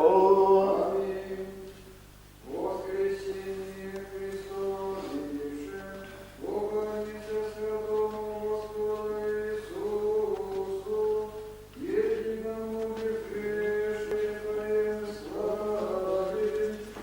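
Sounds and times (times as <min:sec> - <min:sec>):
choir chanting: 0:00.0 - 0:01.6, 0:02.5 - 0:17.0.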